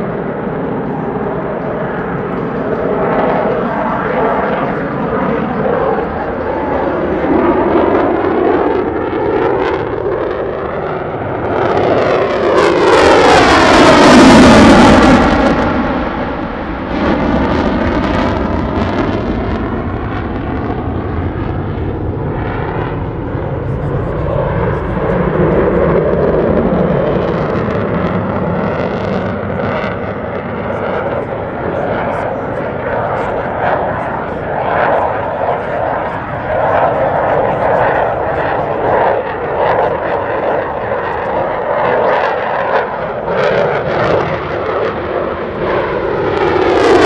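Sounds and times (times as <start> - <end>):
jet engines in afterburner: 0.0 - 47.0.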